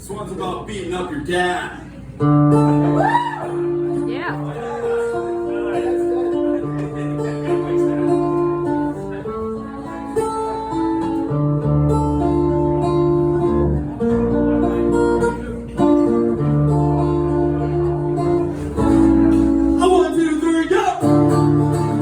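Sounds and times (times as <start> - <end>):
acoustic guitar strumming: 2.2 - 22.0.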